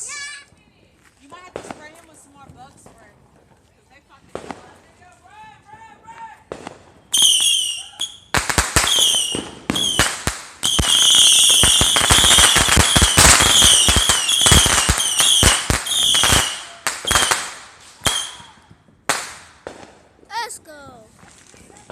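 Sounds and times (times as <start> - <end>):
fireworks bangs and crackles: 1.2 - 21.9.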